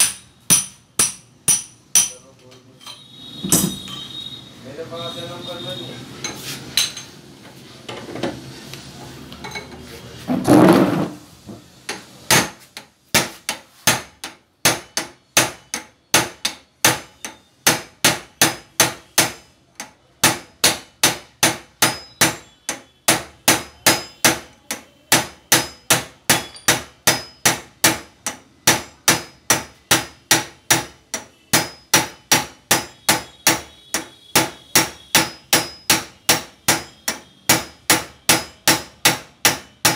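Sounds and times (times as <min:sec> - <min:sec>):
hammer striking steel pipe: 0:00.0 - 0:04.2, 0:11.9 - 0:39.9.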